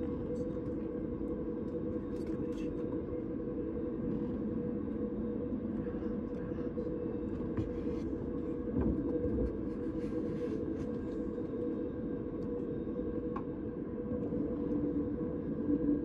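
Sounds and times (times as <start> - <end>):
train running drone: 0.0 - 16.0.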